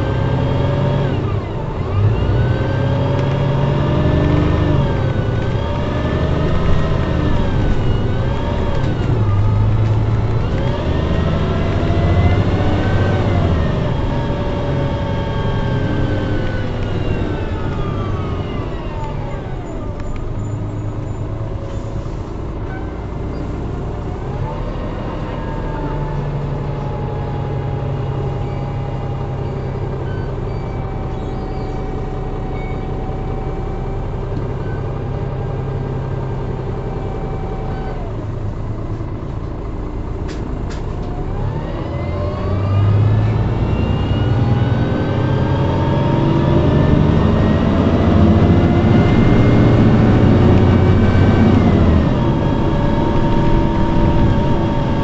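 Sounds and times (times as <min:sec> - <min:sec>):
bus engine and drivetrain whine: 0:00.0 - 0:55.0.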